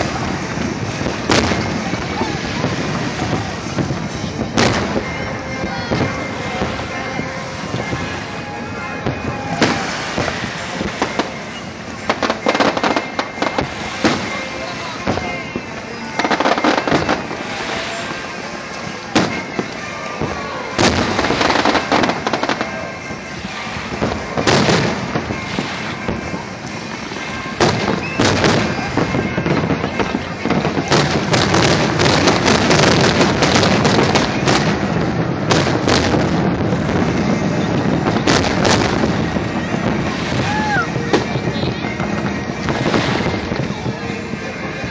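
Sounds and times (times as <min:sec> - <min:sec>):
fireworks bursting with bangs: 0:00.0 - 0:44.9
fireworks crackle: 0:00.0 - 0:44.9.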